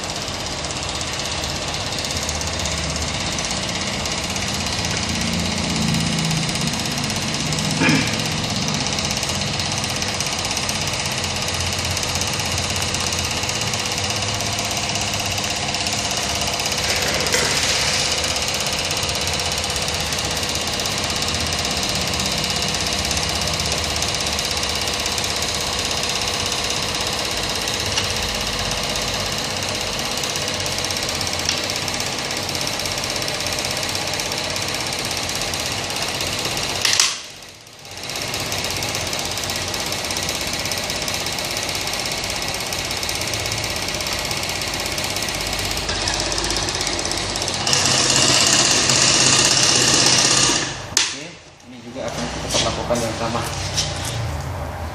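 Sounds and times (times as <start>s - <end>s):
small pump running: 0.0s - 54.8s.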